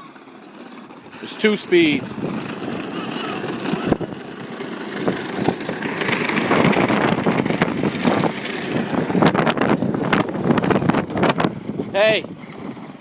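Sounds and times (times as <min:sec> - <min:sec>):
plastic wheels rattling over ground: 0:00.0 - 0:13.0.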